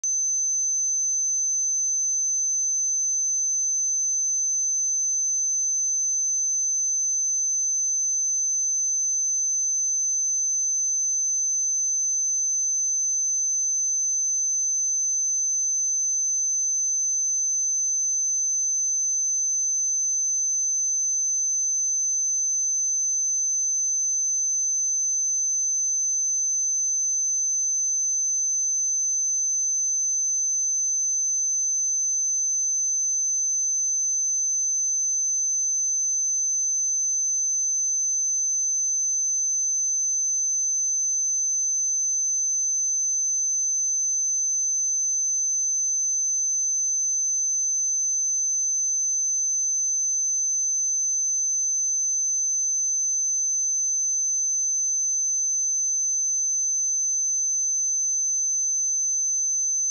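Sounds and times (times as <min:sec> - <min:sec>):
high-pitched sine-wave tone: 0:00.0 - 0:59.9.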